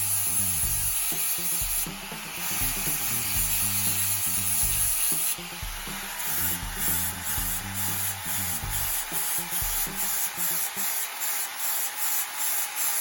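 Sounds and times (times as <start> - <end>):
background music with bass: 0.0 - 10.8
blade grinding on flap wheel: 2.4 - 13.0.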